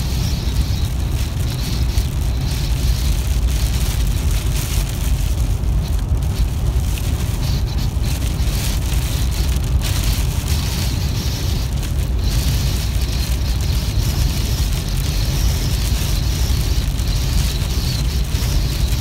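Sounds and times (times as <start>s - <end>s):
car road rumble: 0.0s - 19.0s
rain hitting windshield: 0.0s - 19.0s.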